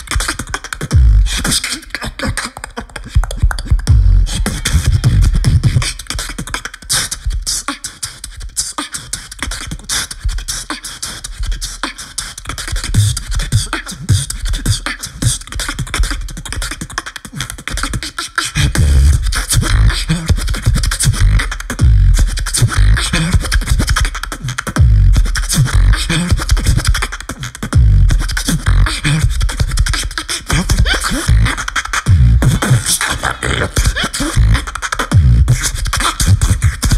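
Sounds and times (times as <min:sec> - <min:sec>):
beatboxing into a microphone: 0:00.0 - 0:36.9.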